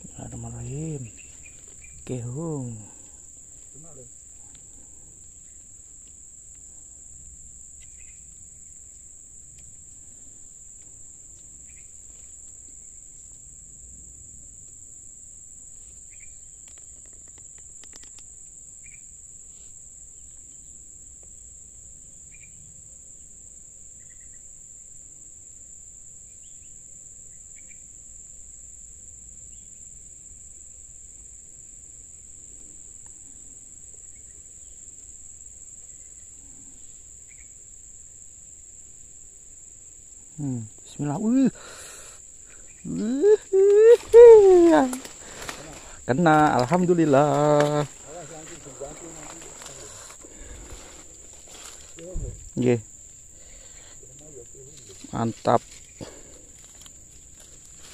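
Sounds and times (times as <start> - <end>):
faint insect chirps: 0.0 - 57.9
high-pitched insect drone: 0.0 - 57.9.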